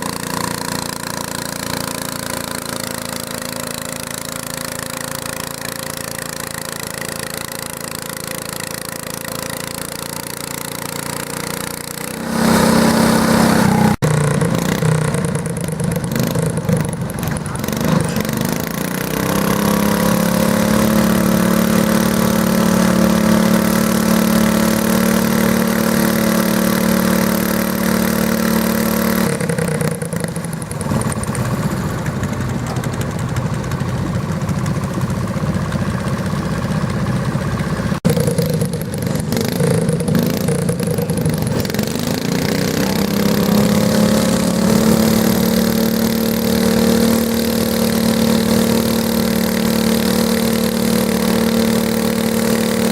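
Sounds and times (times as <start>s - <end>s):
tractor engine running hard: 0.0s - 52.9s.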